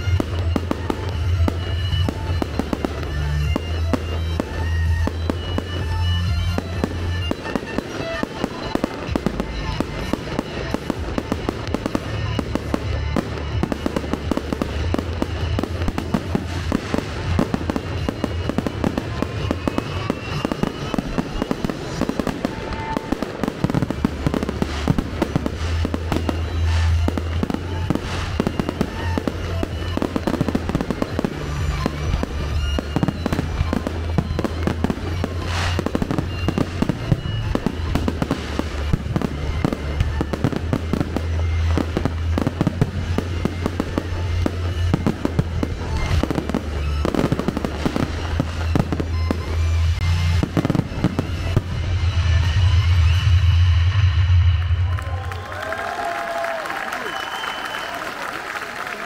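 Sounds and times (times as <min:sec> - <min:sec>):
loud firework bangs: 0:00.0 - 0:58.0
fireworks crackling and popping: 0:00.0 - 0:59.0.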